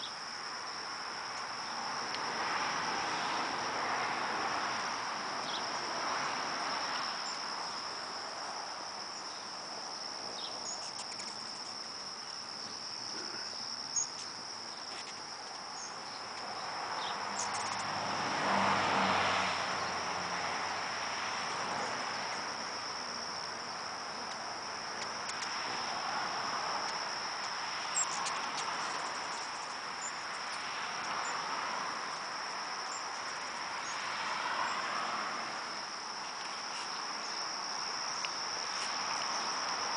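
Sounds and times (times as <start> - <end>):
crickets droning: 0.0 - 39.9.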